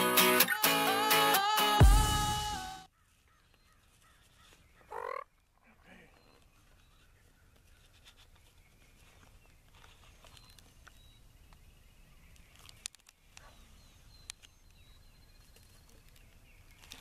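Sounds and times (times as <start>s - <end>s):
distant bird calls: 2.9s - 17.0s.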